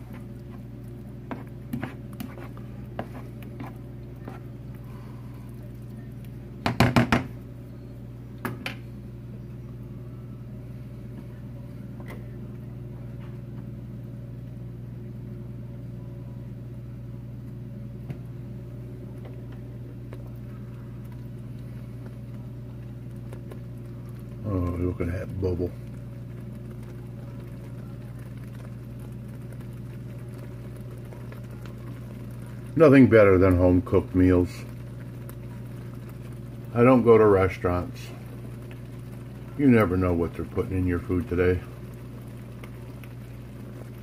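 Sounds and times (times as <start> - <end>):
low electrical hum: 0.0 - 44.0.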